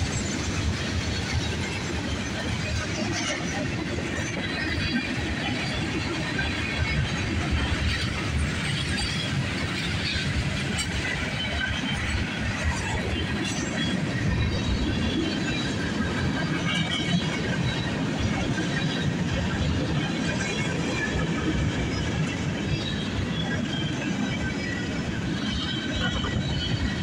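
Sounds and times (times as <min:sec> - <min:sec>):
steel wheels rumbling on rail: 0:00.0 - 0:27.0.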